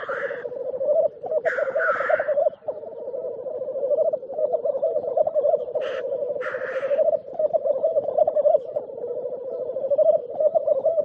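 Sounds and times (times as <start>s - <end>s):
grouse bubbling display song: 0.0s - 11.0s
grouse hissing calls: 0.0s - 11.0s.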